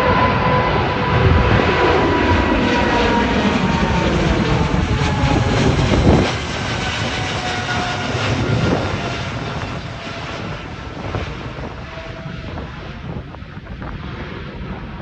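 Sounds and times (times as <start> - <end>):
jet engines at take-off: 0.0 - 15.0.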